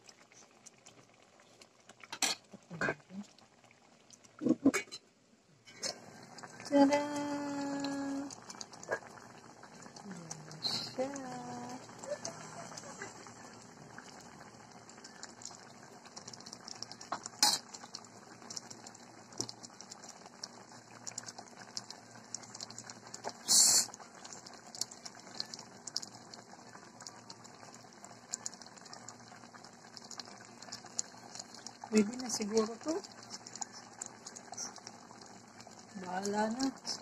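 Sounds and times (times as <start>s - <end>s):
liquid bubbling in a pot: 0.0s - 37.0s.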